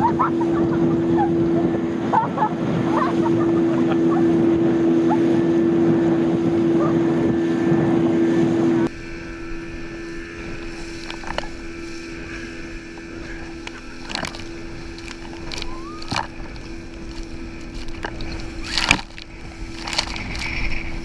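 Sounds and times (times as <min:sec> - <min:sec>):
speedboat engine humming: 0:00.0 - 0:21.0
water rushing: 0:00.0 - 0:21.0.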